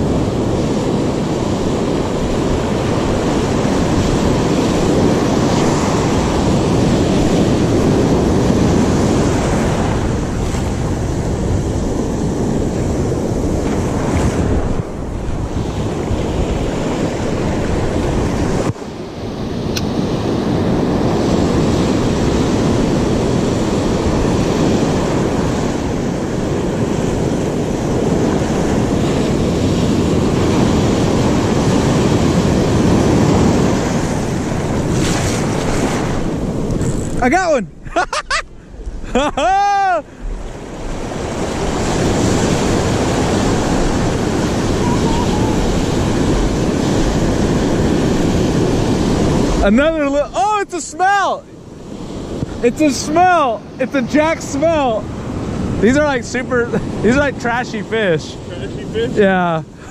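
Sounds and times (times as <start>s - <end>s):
wind noise on microphone: 0.0s - 50.4s, 51.5s - 59.9s
ocean surf breaking: 0.0s - 59.9s.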